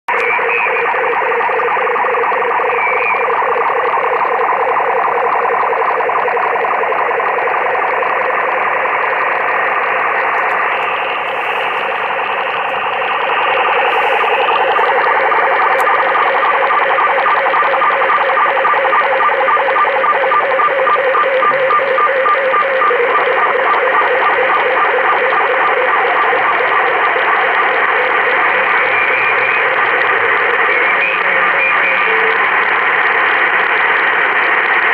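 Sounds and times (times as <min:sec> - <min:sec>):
pulsing radio interference noise: 0:00.1 - 0:34.9.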